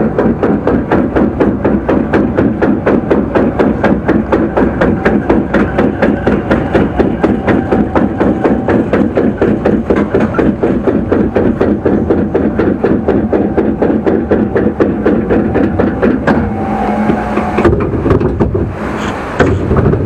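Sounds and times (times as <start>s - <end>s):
low rumble: 0.0s - 18.8s
log flume lift clacking: 0.0s - 20.0s.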